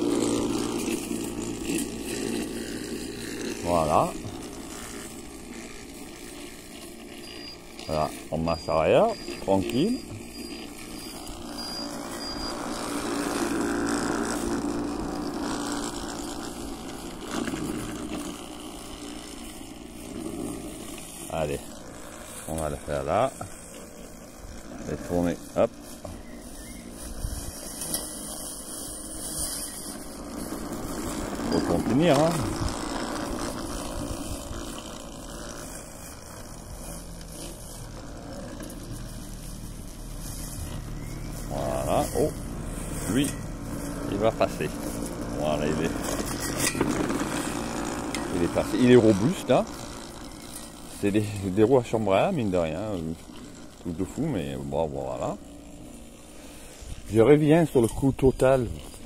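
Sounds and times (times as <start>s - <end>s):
electric lawnmower running: 0.0s - 59.0s.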